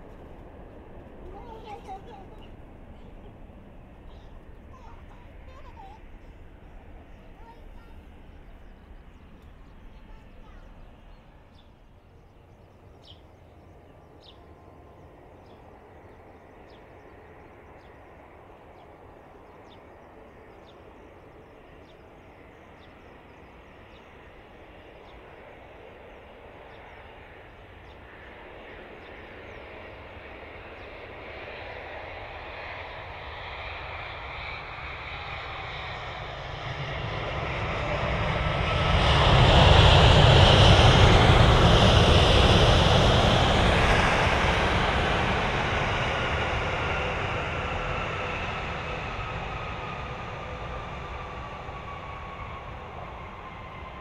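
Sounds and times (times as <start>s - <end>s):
jet airliner engines: 0.0s - 54.0s.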